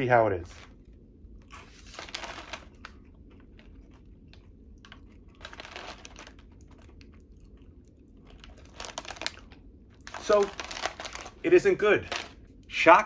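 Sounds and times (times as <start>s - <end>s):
snack bag crinkling: 0.4s - 12.6s
crunching and chewing snack: 0.4s - 12.7s.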